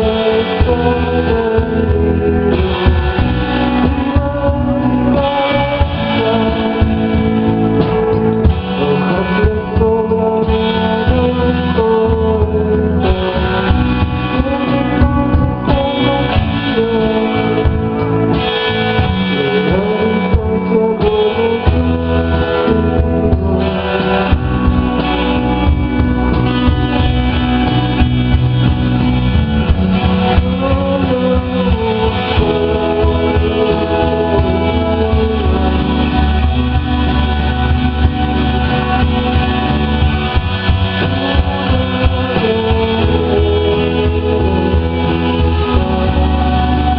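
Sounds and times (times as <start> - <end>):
bass: 0.0 - 46.9
drums: 0.0 - 46.9
electric guitar: 0.0 - 46.9.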